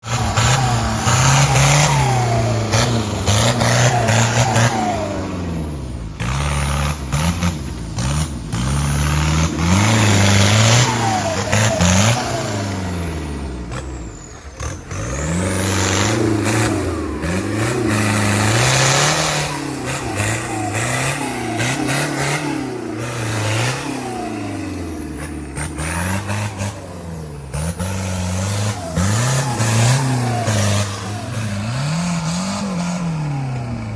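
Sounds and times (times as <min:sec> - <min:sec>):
engine revving hard: 0:00.0 - 0:33.9.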